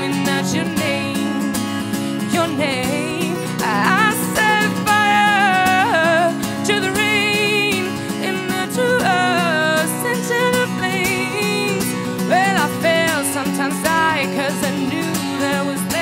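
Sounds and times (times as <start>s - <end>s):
acoustic guitar chords: 0.0s - 16.0s
woman singing with vibrato: 0.0s - 16.0s.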